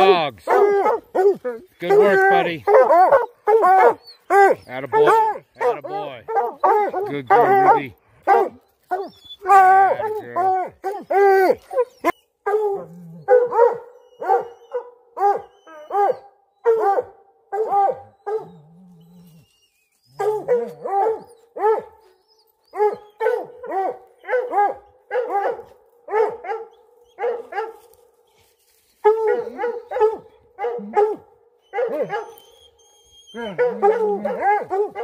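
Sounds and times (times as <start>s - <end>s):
hounds barking: 0.0s - 18.7s, 20.2s - 22.1s, 22.7s - 28.1s, 29.0s - 35.0s.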